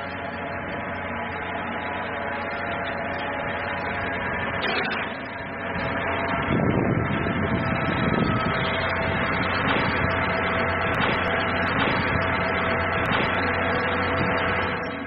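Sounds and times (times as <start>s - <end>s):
train running steadily: 0.0s - 15.0s.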